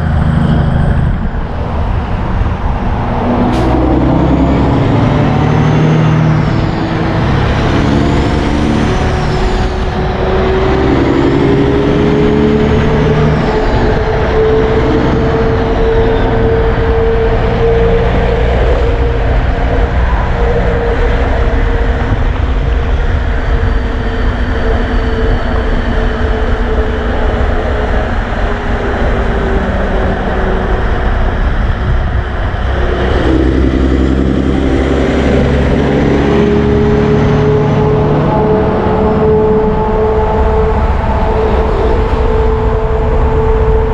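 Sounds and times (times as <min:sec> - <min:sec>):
heavy trucks passing: 0:00.0 - 0:43.9
sustained whine: 0:00.0 - 0:43.9.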